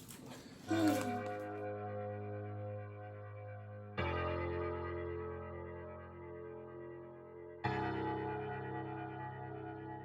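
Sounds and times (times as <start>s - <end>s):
music with sustained held notes: 0.8s - 10.0s.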